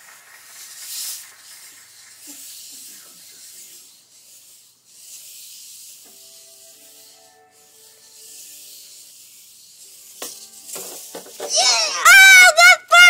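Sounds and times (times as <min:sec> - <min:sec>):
hula hoop spinning hiss: 0:00.0 - 0:13.0.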